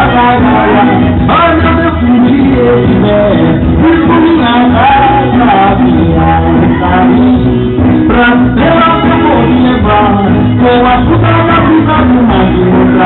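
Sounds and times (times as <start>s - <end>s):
band playing: 0.0s - 13.0s
person singing: 0.0s - 13.0s.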